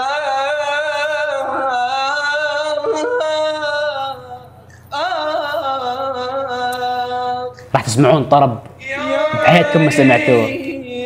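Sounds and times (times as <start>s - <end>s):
man singing with vibrato: 0.0s - 8.0s, 8.7s - 11.0s.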